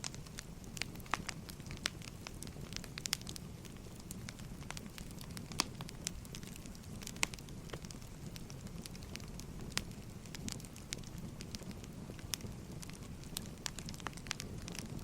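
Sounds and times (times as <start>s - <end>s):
firewood crackling and popping: 0.0s - 15.0s
low rumble of flames: 0.0s - 15.0s.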